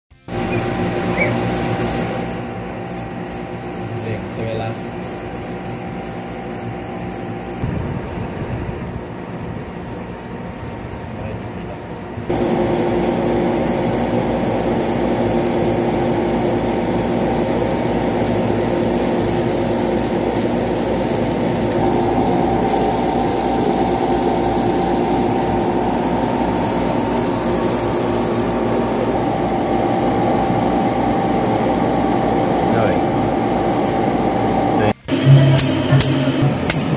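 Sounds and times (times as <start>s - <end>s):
high-voltage arcing crackle: 0.2s - 33.5s.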